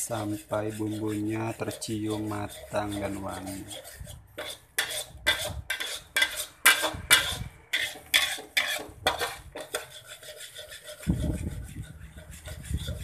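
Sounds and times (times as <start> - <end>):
metal spoon scraping frying pan: 0.0 - 13.0.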